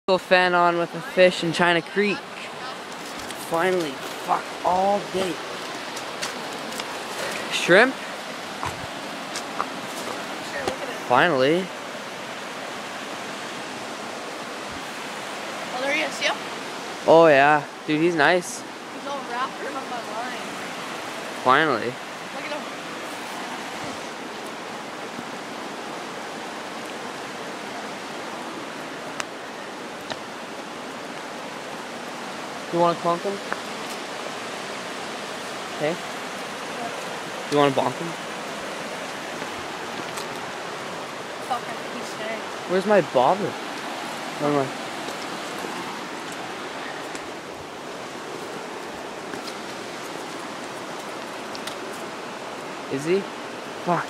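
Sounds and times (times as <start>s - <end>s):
creek rushing over rocks: 0.1s - 54.0s.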